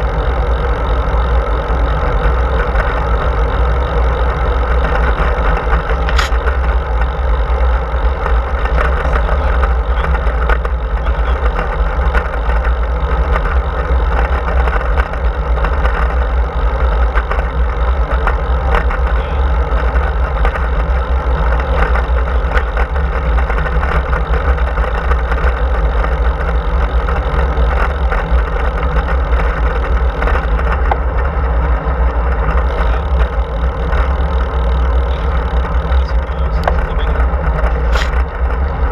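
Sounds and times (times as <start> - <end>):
bike tyres rolling on asphalt: 0.0 - 38.9.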